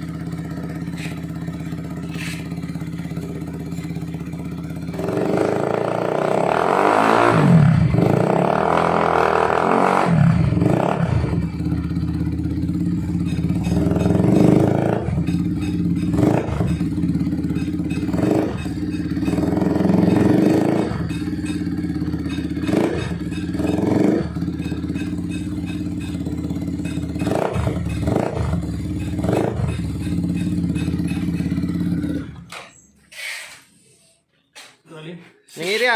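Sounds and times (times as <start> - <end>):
motorcycle engine revving: 0.0 - 33.3.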